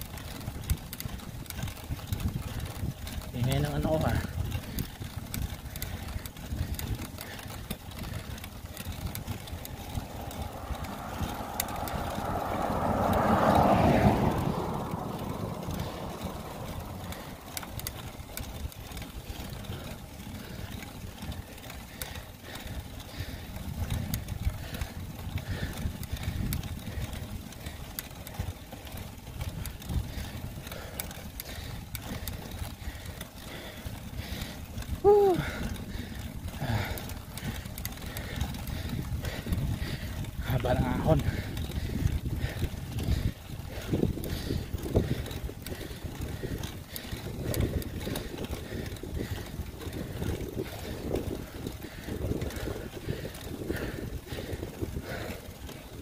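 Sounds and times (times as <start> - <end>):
wind buffeting microphone: 0.0 - 56.0
passing vehicle road noise: 3.5 - 22.8, 23.4 - 54.8.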